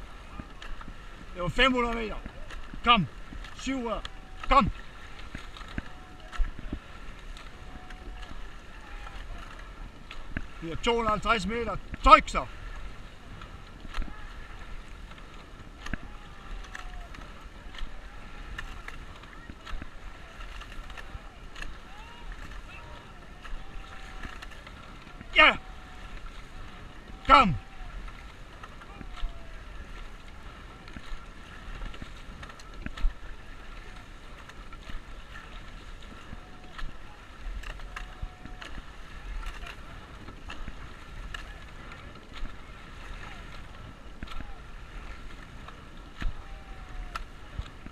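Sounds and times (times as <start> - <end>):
water rushing along hull: 0.0 - 47.9
oars knocking in oarlocks: 0.2 - 47.9
wind on microphone: 2.0 - 47.9.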